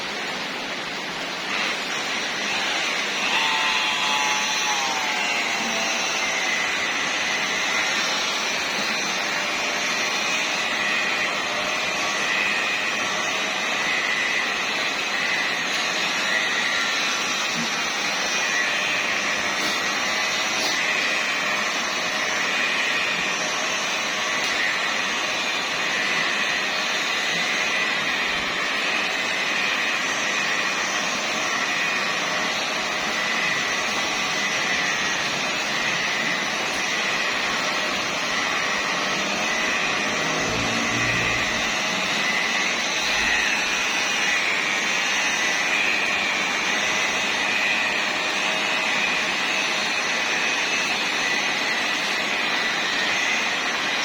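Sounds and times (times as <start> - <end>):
polishing machine motor whine: 0.0 - 54.0.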